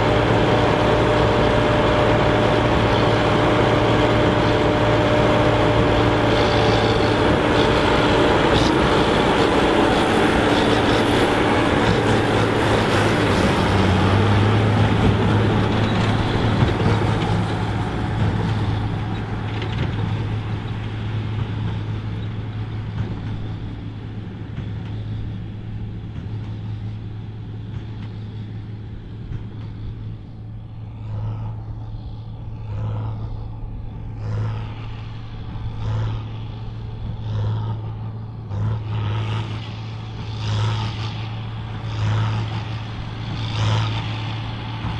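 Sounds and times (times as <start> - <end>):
tractor diesel engine under load: 0.0 - 44.9.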